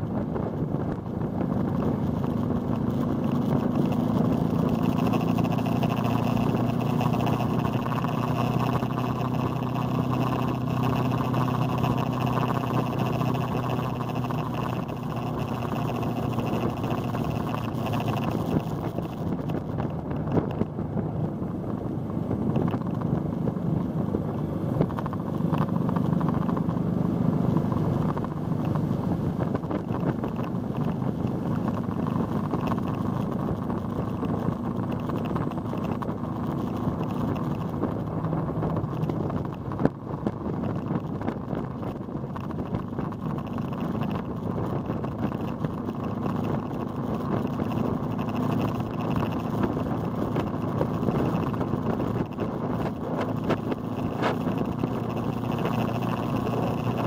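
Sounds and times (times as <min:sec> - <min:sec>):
motorcycle engine cruising: 0:00.0 - 0:57.0
road noise: 0:00.0 - 0:57.0
wind rushing over microphone: 0:00.0 - 0:57.0.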